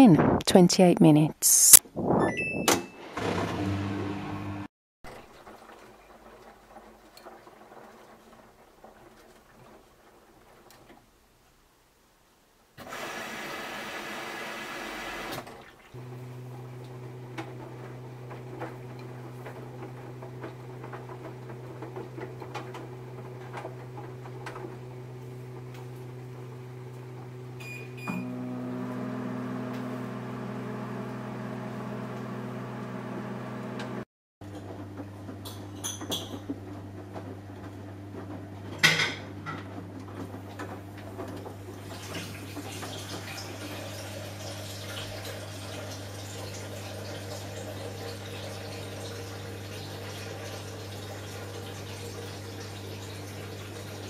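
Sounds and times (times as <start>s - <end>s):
washing machine motor hum: 3.2s - 10.0s, 12.8s - 54.0s.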